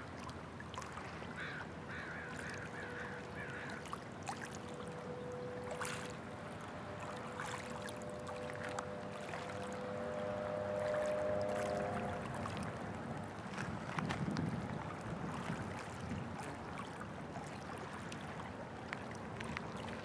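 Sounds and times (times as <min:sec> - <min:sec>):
small waves splashing at shore: 0:00.0 - 0:20.0
distant motorboat engine droning: 0:00.9 - 0:20.0.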